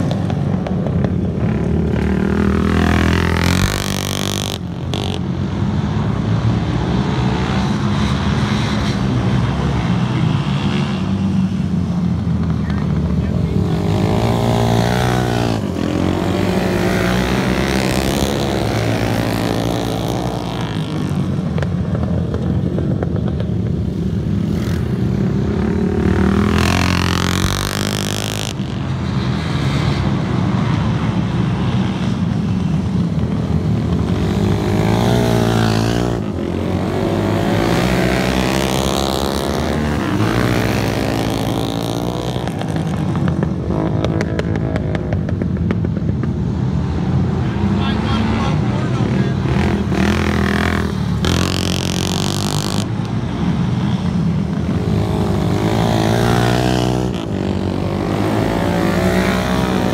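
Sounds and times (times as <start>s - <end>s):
motorcycle engines racing: 0.0s - 59.9s.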